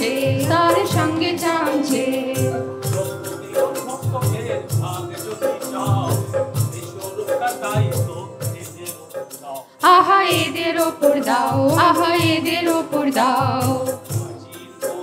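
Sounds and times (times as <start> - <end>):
person singing: 0.0 - 15.0
rattling shaker: 0.0 - 15.0
steady drum beat: 0.0 - 15.0.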